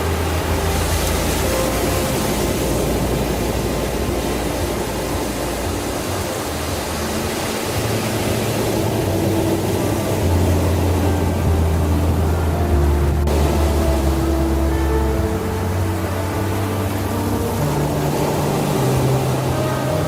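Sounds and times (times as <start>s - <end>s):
low droning hum: 0.0s - 20.0s
steady rushing noise: 0.0s - 20.0s.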